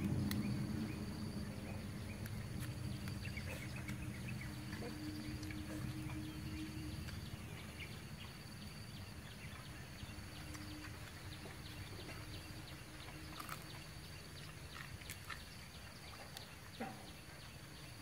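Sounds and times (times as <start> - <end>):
insects chirping: 0.0 - 18.0
low outdoor hum: 0.0 - 18.0.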